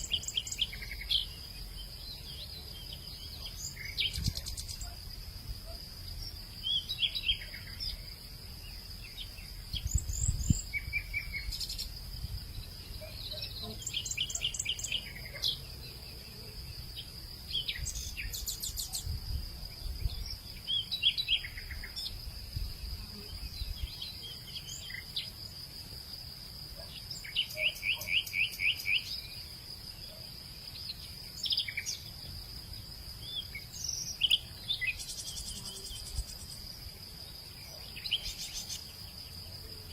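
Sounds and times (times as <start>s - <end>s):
birds chirping and trilling: 0.0s - 22.5s, 26.8s - 39.9s
high insect drone: 0.0s - 39.9s.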